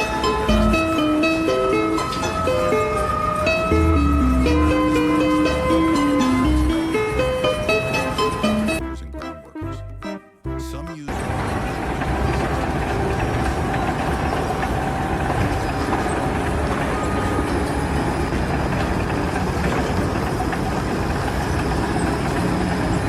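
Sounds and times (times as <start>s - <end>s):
heavy engine running: 0.0s - 8.8s, 11.0s - 23.0s.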